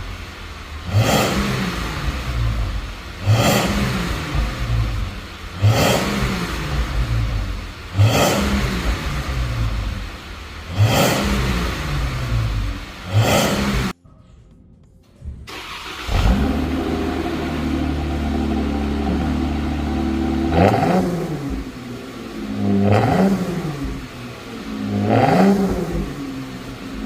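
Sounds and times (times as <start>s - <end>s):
car engine revving and idling: 0.0s - 14.0s, 15.5s - 27.0s.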